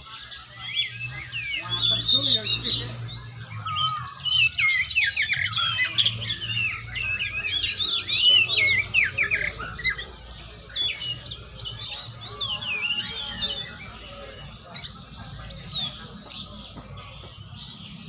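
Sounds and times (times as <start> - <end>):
songbird singing chirps and whistles: 0.0 - 18.0.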